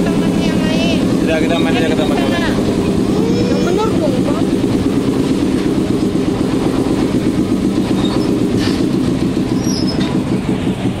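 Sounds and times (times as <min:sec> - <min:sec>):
ride train engine running: 0:00.0 - 0:11.0.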